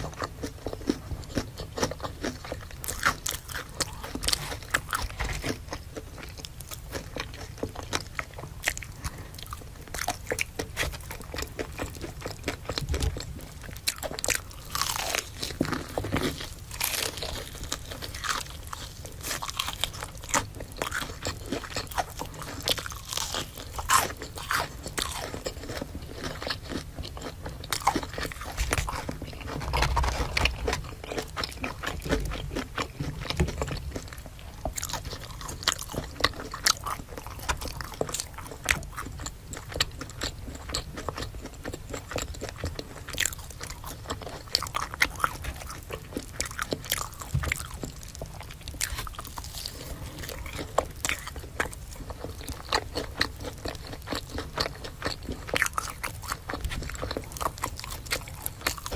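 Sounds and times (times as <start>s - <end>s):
person chewing crispy food: 0.0s - 58.9s.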